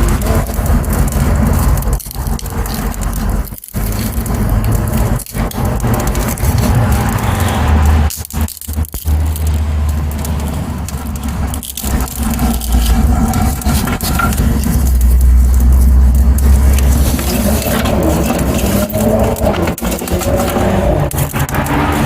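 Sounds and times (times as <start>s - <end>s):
low rumble: 0.0s - 22.0s
wood fire crackling and popping: 0.0s - 22.0s.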